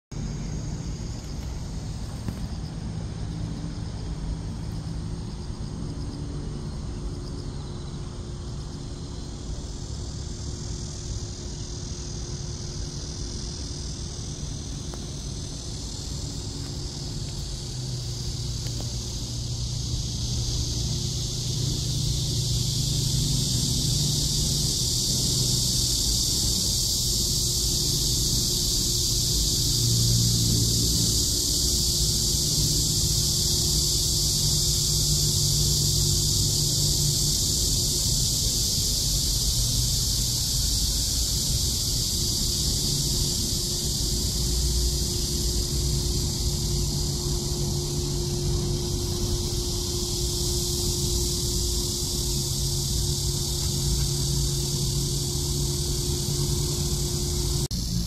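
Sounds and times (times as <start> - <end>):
insects buzzing and chirring: 0.0 - 58.0.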